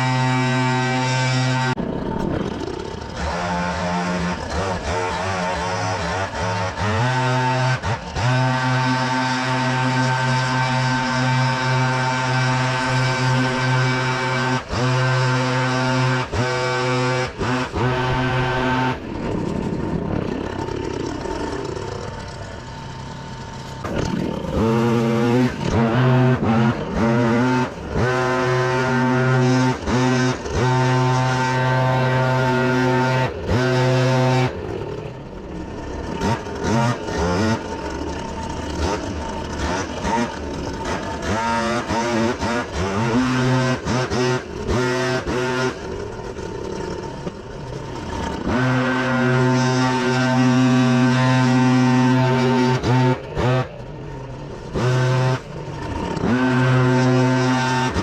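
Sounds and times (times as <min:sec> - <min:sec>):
leaf vacuum engine droning: 0:00.0 - 0:58.0.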